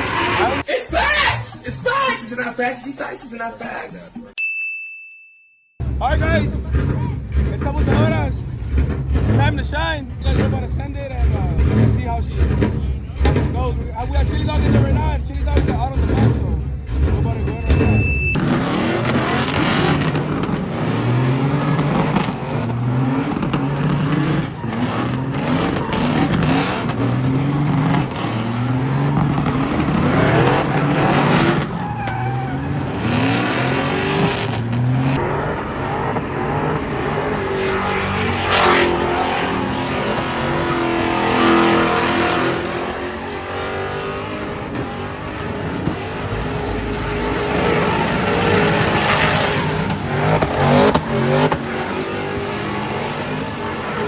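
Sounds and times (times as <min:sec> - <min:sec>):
truck engine revving: 0:00.0 - 0:00.8, 0:05.8 - 0:54.0
tyres squealing and skidding: 0:00.0 - 0:04.4, 0:05.8 - 0:54.0.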